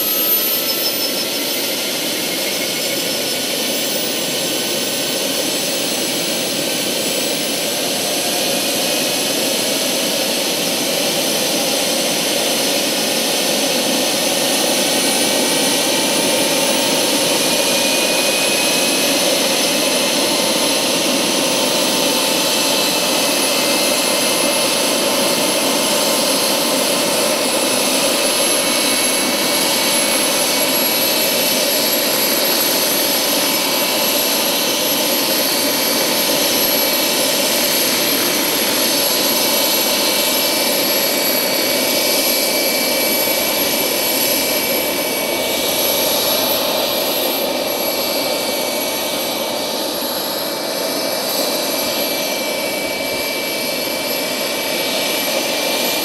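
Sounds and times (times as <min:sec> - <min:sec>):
model turbine engine whine: 0:00.0 - 0:56.0.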